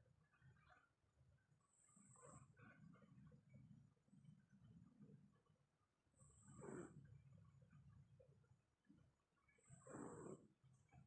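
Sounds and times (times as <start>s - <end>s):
dog snoring softly: 0.3s - 8.2s, 9.4s - 11.0s.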